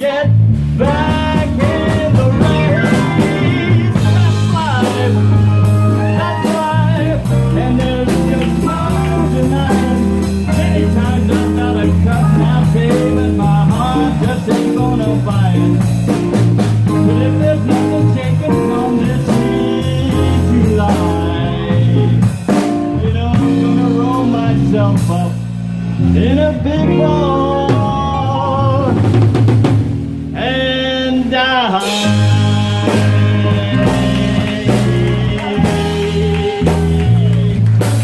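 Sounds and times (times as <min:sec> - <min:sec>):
man singing into microphone: 0:00.0 - 0:16.2, 0:16.8 - 0:29.2, 0:30.3 - 0:38.0
drum kit: 0:00.0 - 0:38.0
electric bass guitar: 0:00.0 - 0:38.0.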